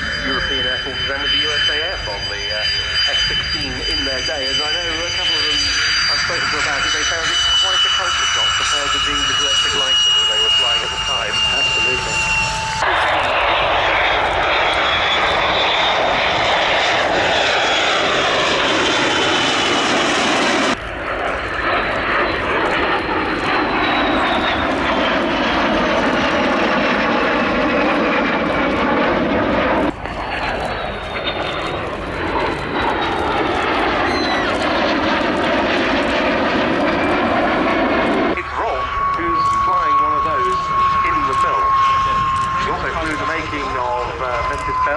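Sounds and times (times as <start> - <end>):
jets flying past: 0.0 - 44.9.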